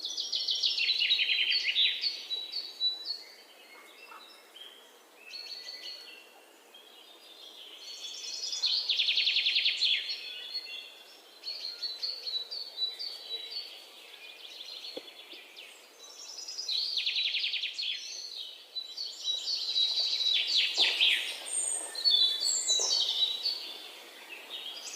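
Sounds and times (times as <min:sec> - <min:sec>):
small birds chirping and singing: 0:00.0 - 0:24.9.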